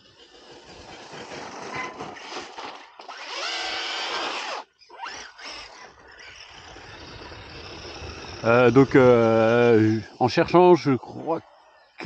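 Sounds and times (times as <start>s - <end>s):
electric motor whining: 0.0s - 10.2s.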